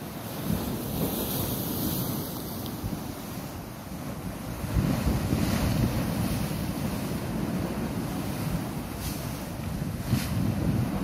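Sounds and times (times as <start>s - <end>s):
waves breaking on rocks: 0.0s - 11.0s
wind buffeting microphone: 0.0s - 11.0s.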